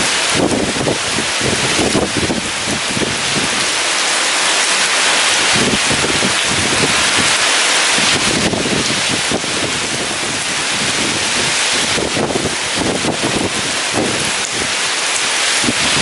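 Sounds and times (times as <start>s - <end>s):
heavy rain pouring: 0.0s - 16.0s
strong wind buffeting microphone: 0.0s - 16.0s.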